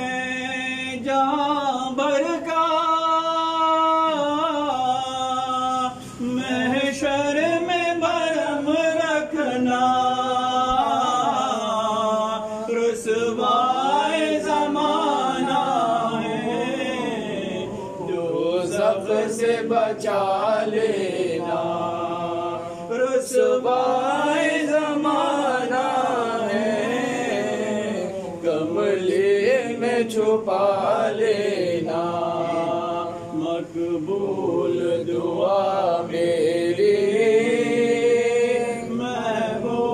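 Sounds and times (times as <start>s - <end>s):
man chanting into microphone: 0.0s - 39.9s.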